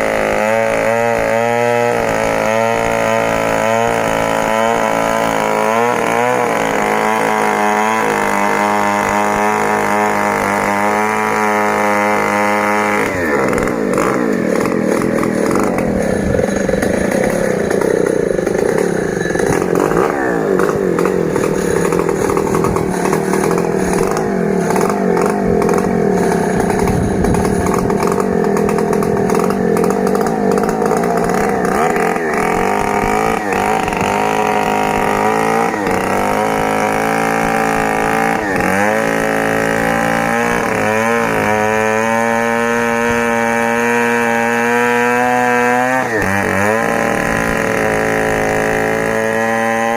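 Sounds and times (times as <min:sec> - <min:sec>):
chainsaw cutting log: 0:00.0 - 0:49.9.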